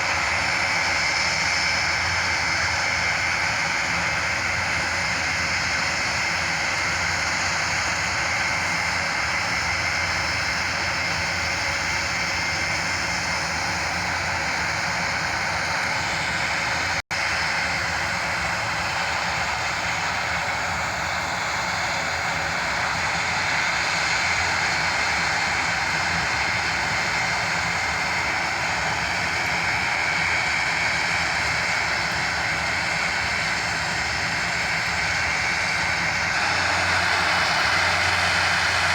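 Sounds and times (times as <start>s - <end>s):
turboprop engines droning: 0.0s - 38.9s.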